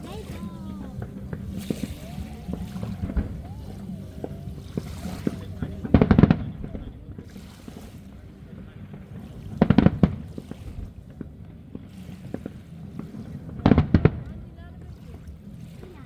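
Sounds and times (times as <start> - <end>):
fireworks bangs: 0.0 - 15.1
low background rumble: 0.0 - 16.0.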